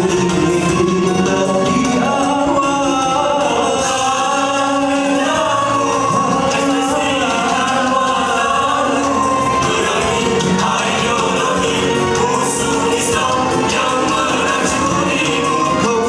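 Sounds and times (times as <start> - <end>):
vocal group singing in harmony: 0.0 - 16.0.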